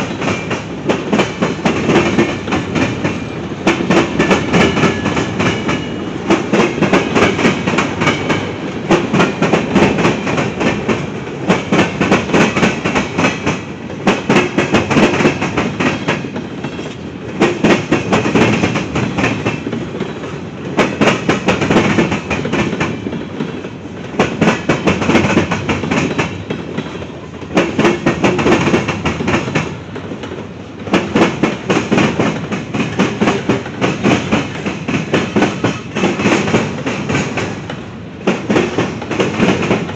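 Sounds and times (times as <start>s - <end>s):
freight train rumble: 0.0s - 39.9s
train wheels clattering over rail joints: 0.0s - 39.9s.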